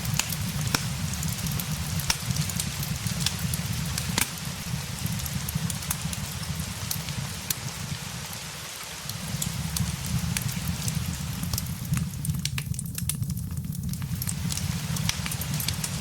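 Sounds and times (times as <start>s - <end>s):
crackling fireplace: 0.0s - 16.0s
rain on windows: 0.0s - 16.0s.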